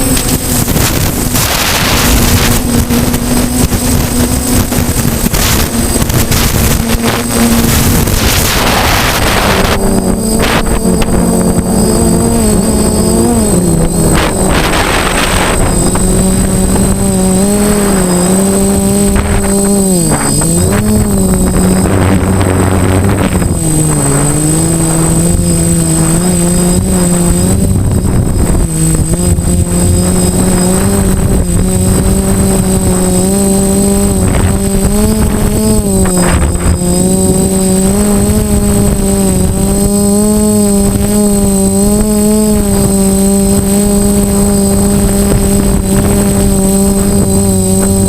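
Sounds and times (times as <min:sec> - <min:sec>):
quadcopter propellers buzzing: 0:00.0 - 0:48.0
thin high whine: 0:00.0 - 0:48.0
wind noise gusts: 0:00.0 - 0:48.0.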